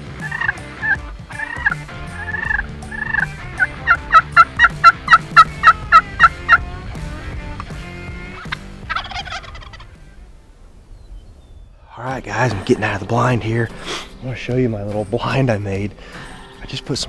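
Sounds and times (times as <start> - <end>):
wild turkey calling: 0.2 - 7.0, 7.6 - 14.5.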